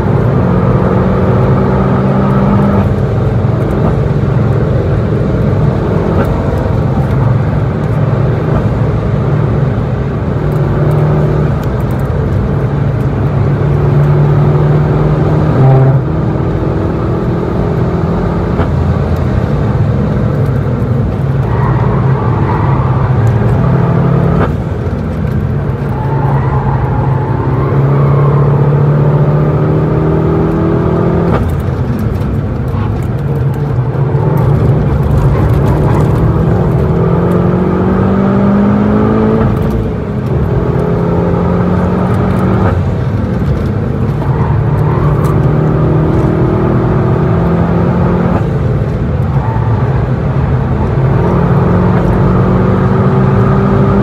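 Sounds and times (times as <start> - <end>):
car engine revving: 0.0 - 54.0
tyre and road noise: 0.0 - 54.0.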